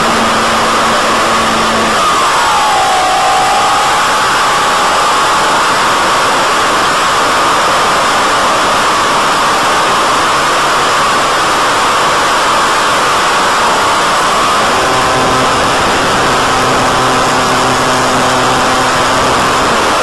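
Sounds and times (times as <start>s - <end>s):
motor whine: 0.0s - 9.8s, 11.9s - 20.0s.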